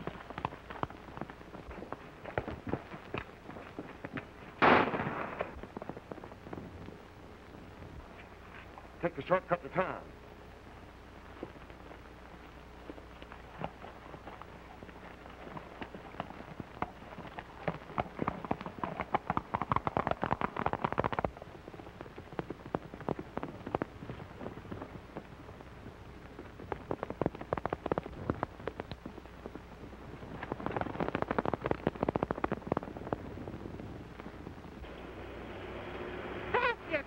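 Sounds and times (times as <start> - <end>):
galloping horses hoofbeats: 0.0 - 35.2.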